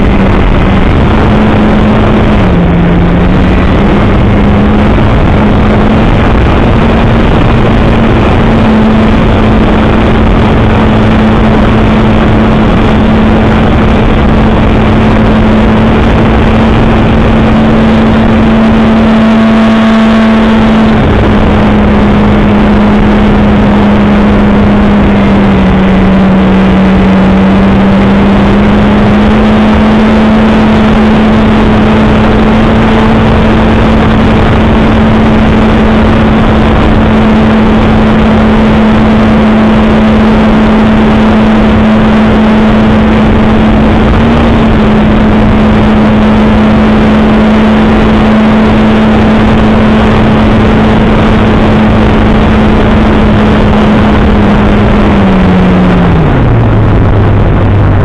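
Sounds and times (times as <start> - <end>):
rushing airflow: 0.0 - 58.0.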